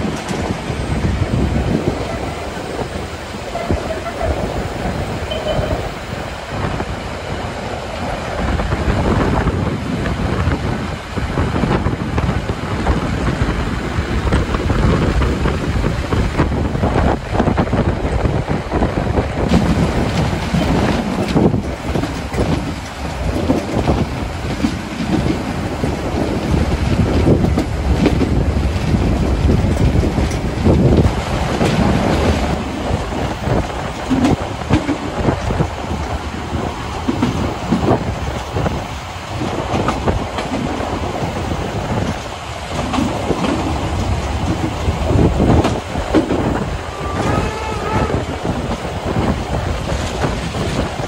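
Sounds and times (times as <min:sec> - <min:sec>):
steam train rumbling: 0:00.0 - 0:51.0.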